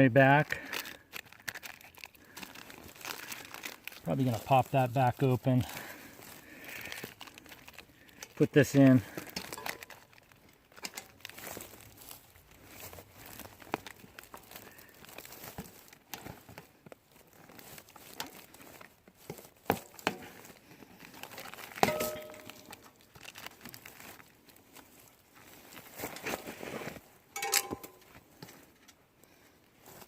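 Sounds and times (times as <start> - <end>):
plastic wrapper crinkling: 0.0 - 28.7
tire clicks and rubs: 0.0 - 30.0.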